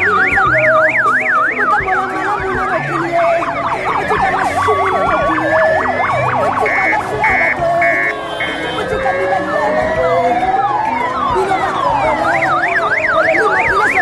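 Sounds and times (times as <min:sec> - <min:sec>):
electronic siren yelping: 0:00.0 - 0:14.0.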